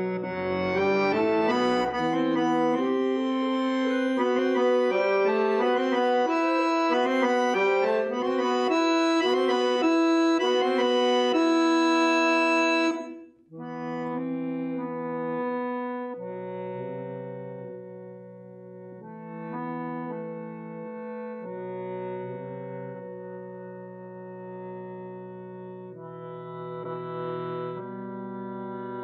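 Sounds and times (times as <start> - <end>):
accordion melody: 0.0 - 29.0.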